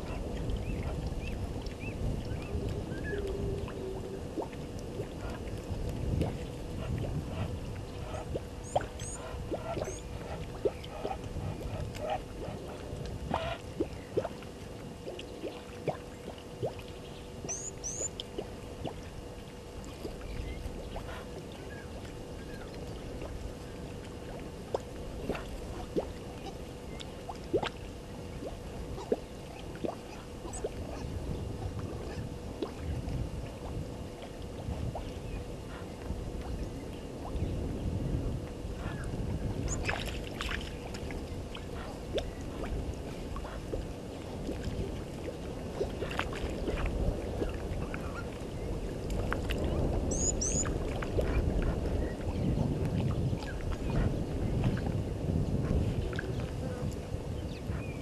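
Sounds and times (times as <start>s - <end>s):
faint hum: 0.0s - 58.0s
low wind-like rumble: 0.0s - 58.0s
small water sounds: 0.0s - 58.0s.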